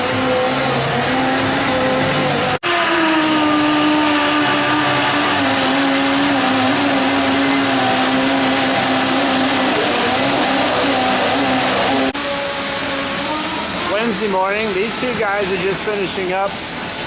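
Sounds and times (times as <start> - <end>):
power drill drilling steel: 0.1 - 17.0.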